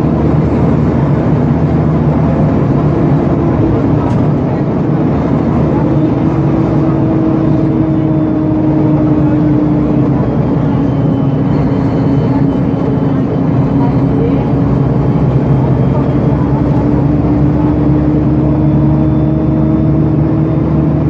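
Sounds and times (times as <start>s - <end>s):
bus diesel engine droning: 0.0s - 21.0s.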